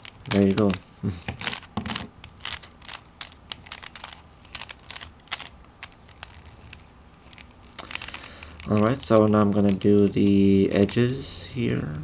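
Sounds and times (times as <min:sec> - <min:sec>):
plastic puzzle clicking: 0:00.0 - 0:12.0.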